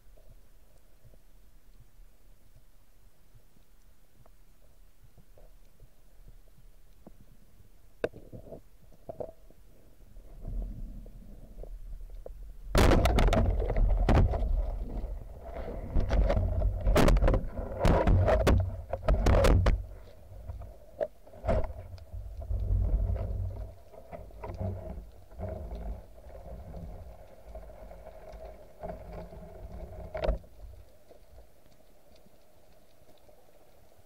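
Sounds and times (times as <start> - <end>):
low water rumble: 0.0 - 34.0
underwater knocks and scrapes: 4.2 - 33.9.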